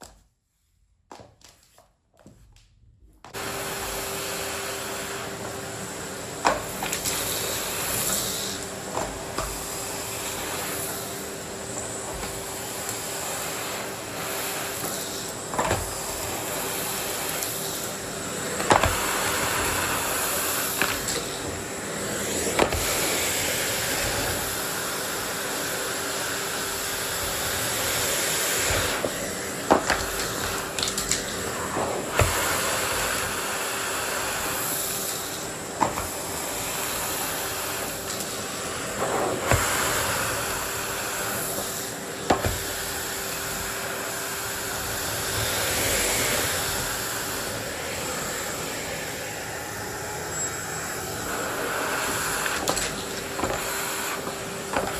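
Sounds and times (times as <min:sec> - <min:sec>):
vacuum cleaner running: 0:03.3 - 0:54.9.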